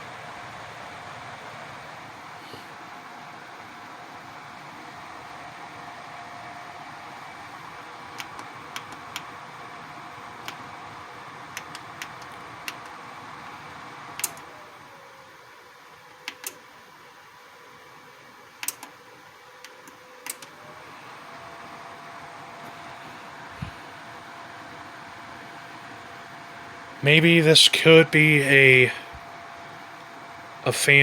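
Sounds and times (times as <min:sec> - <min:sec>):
heater blower fan whooshing: 0:00.0 - 0:15.1, 0:20.5 - 0:31.0.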